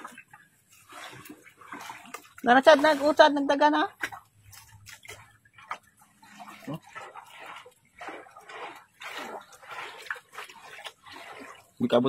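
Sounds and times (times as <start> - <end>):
muddy water sloshing and splashing: 0.0 - 12.0.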